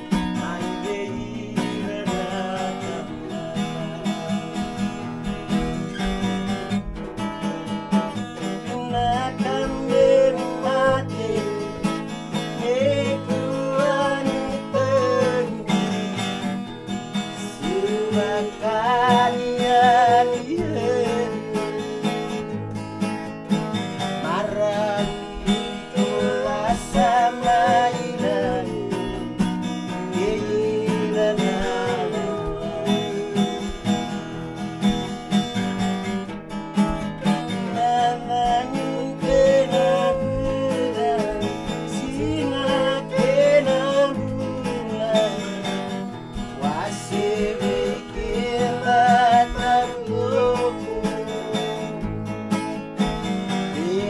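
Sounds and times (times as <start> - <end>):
man singing: 0.0 - 6.8, 8.1 - 22.6, 23.6 - 35.2, 37.2 - 52.2, 53.2 - 54.0
acoustic guitar strumming: 0.0 - 54.0
ukulele strumming: 0.0 - 54.0.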